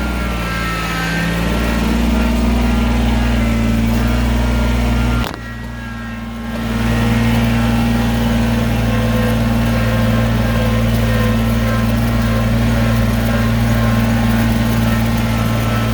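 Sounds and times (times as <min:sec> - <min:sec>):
chainsaw cutting logs: 0:00.0 - 0:15.9.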